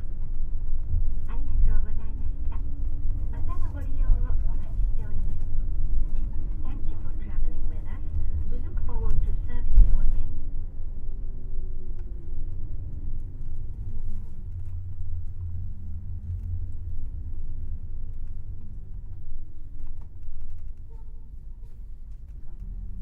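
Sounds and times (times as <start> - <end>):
light rattles and clicks: 0.0 - 10.3, 11.0 - 23.0
bus engine and road rumble: 0.0 - 23.0.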